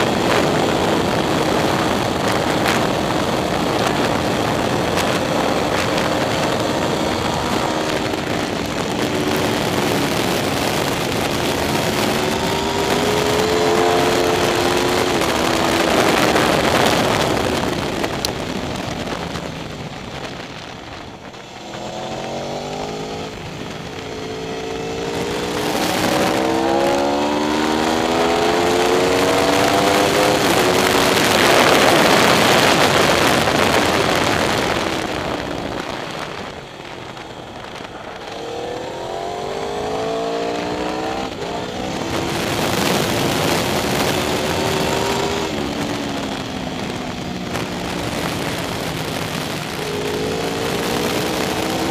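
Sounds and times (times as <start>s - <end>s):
motorcycle engine at full throttle: 0.0s - 51.9s
wind rushing on microphone: 0.0s - 51.9s.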